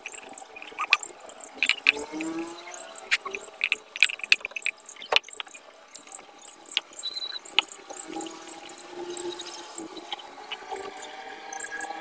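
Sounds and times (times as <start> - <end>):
sharp clicks: 0.0 - 11.9
small birds chirping: 0.0 - 12.0.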